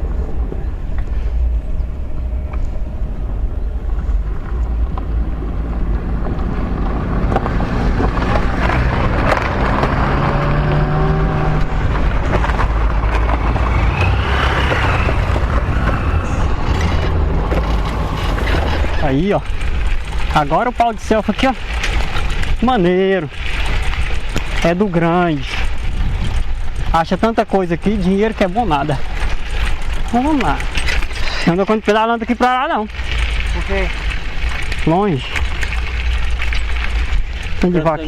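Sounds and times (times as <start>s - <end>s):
road traffic passing: 0.0s - 38.0s.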